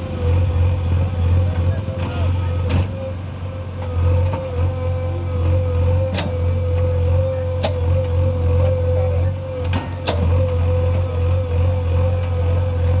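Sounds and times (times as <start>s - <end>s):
constant whine: 0.0s - 13.0s
diesel engine running: 0.0s - 13.0s.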